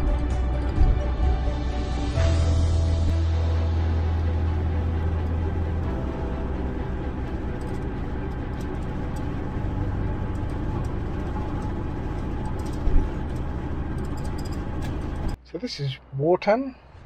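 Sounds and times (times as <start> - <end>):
car road and engine noise: 0.0 - 15.5.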